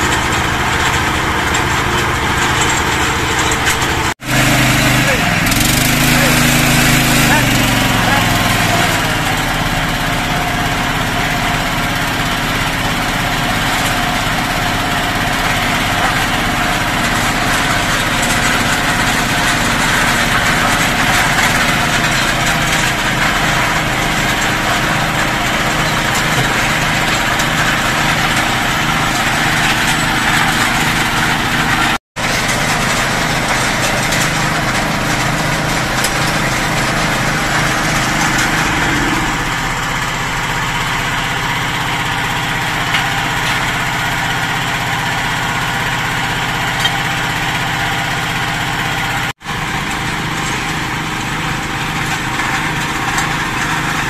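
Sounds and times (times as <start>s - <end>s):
single-cylinder engine running: 0.0s - 54.0s.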